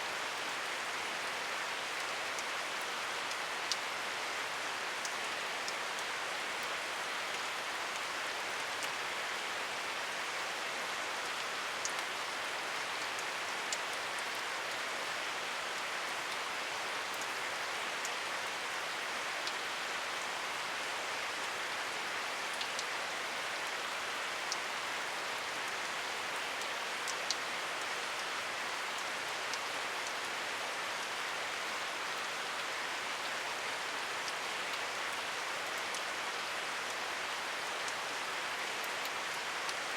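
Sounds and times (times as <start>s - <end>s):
steady rain hiss: 0.0s - 39.9s
raindrops ticking close by: 0.3s - 39.9s.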